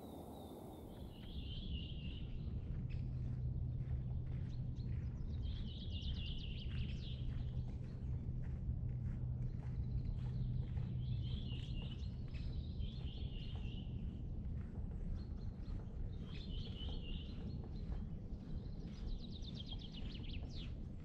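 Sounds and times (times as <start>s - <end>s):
low outdoor rumble: 0.0s - 21.0s
songbirds singing: 0.9s - 21.0s.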